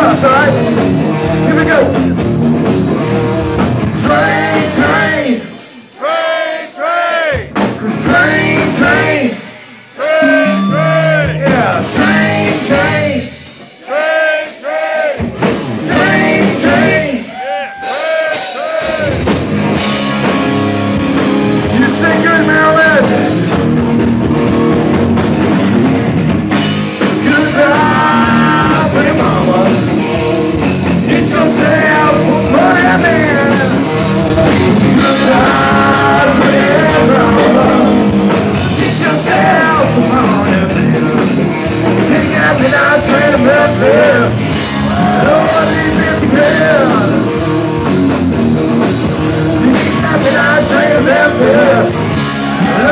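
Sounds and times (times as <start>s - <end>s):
man singing lead: 0.0s - 2.1s, 3.9s - 15.2s, 15.8s - 19.2s, 21.6s - 23.6s, 27.1s - 47.4s, 49.2s - 52.9s
rock band playing loud: 0.0s - 52.9s.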